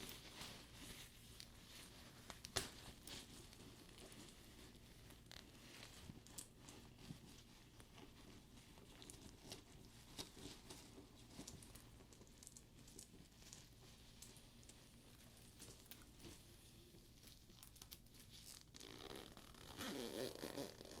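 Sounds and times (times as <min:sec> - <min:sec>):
soft rubbing of leather: 0:00.0 - 0:21.0.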